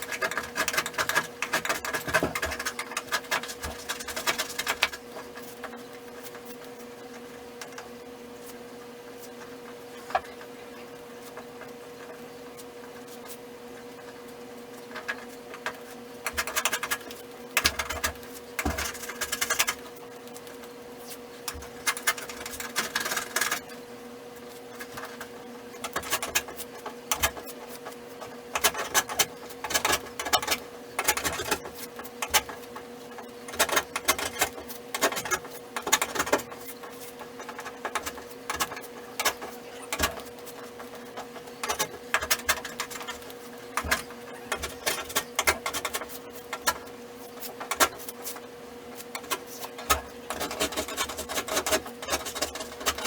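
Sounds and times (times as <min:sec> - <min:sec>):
rapid clicking and scraping: 0:00.0 - 0:07.9, 0:11.2 - 0:53.0.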